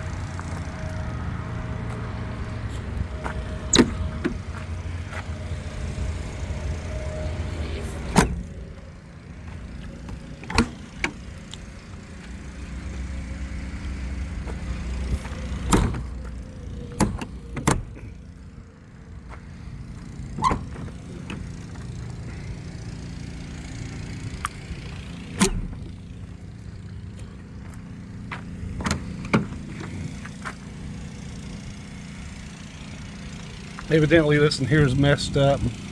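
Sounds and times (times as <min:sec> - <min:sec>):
steady low rumble: 0:00.0 - 0:31.2.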